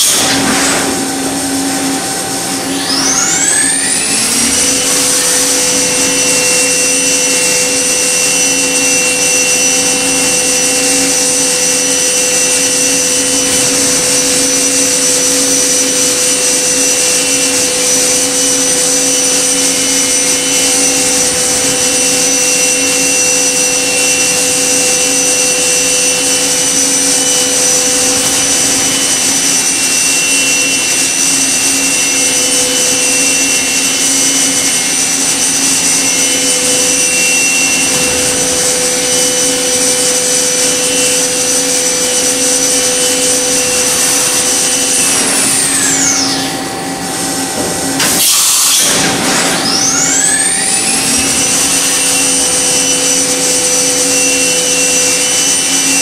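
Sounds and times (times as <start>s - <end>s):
machine spindle whine: 0.0s - 56.0s.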